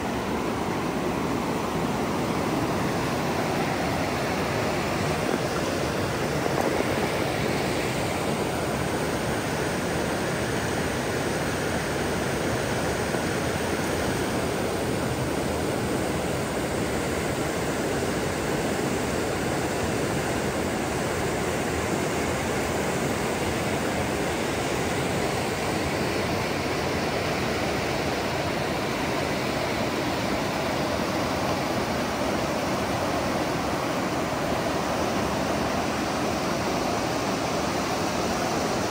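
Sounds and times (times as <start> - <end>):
fast-flowing water rushing: 0.0 - 38.9.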